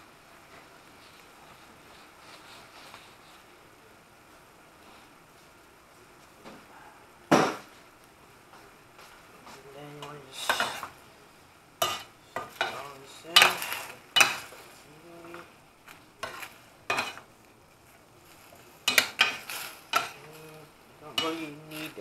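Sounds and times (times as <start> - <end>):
faint sizzle of vegetables frying: 0.0 - 22.0.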